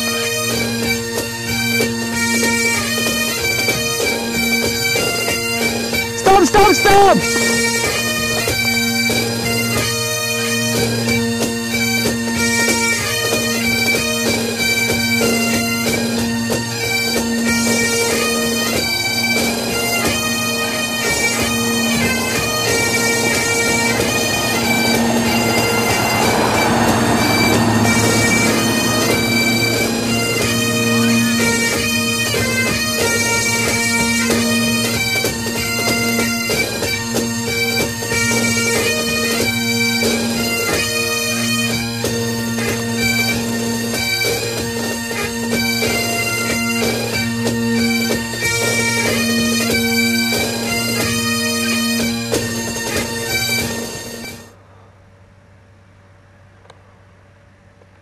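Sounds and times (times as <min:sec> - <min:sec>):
bagpipe music: 0:00.0 - 0:54.6.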